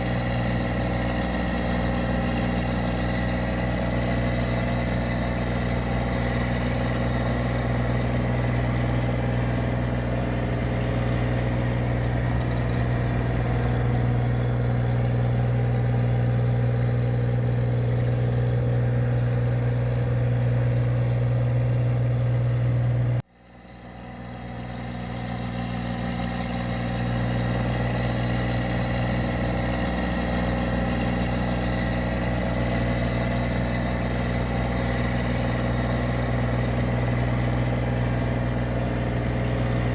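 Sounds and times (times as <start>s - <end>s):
machine engine humming: 0.0s - 23.2s, 28.6s - 39.9s.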